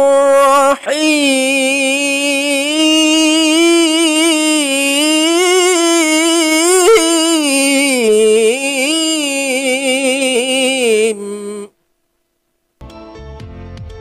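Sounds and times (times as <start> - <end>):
person chanting recitation: 0.0 - 11.7.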